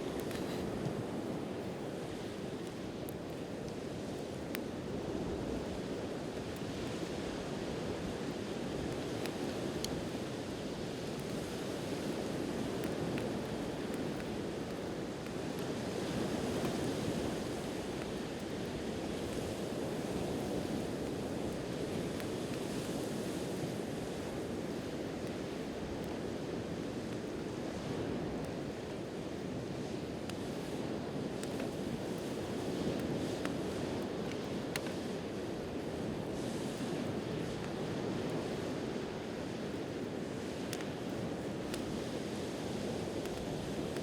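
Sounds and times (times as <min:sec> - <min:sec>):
campfire crackling: 0:00.0 - 0:44.0
sea surf washing on shore: 0:00.0 - 0:44.0.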